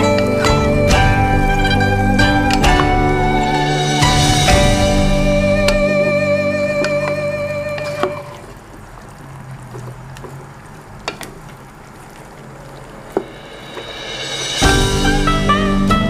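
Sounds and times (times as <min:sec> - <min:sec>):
low sizzle: 0:00.0 - 0:16.0.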